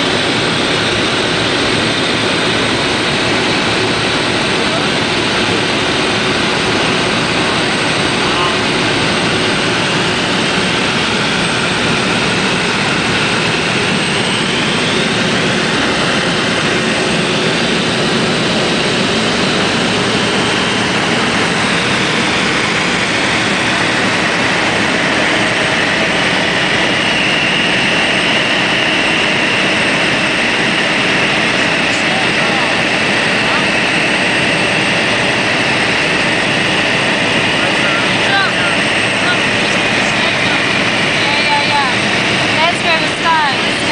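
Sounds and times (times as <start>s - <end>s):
aircraft engine and propeller drone: 0.0s - 43.9s
rushing airflow: 0.0s - 43.9s.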